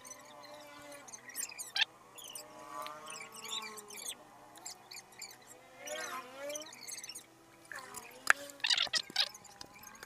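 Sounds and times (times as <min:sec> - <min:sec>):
high chirping: 0:00.0 - 0:07.3, 0:07.9 - 0:10.0.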